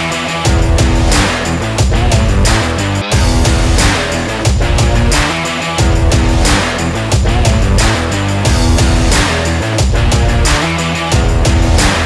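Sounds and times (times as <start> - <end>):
electronic music with driving beat: 0.0 - 12.0.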